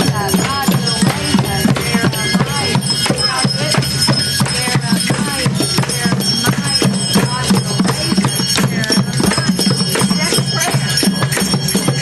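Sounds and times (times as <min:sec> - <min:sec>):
children drumming: 0:00.0 - 0:12.0.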